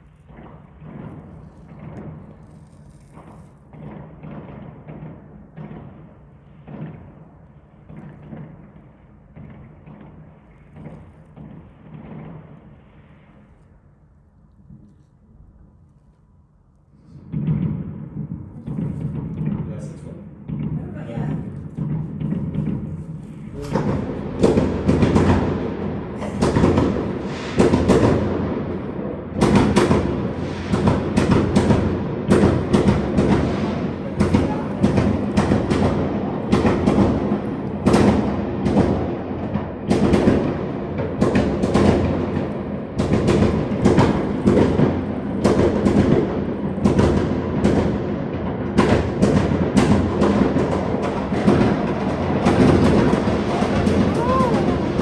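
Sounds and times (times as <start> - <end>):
fireworks bangs echoing: 0.0 - 13.6, 17.2 - 55.0.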